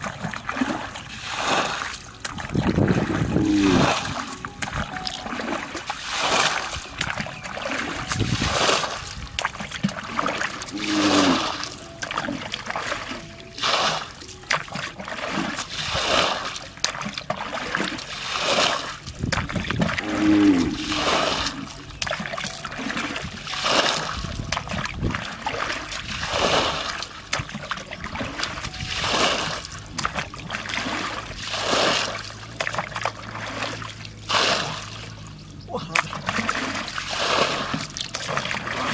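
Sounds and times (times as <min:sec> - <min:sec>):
muddy water splashing: 0:00.0 - 0:38.9.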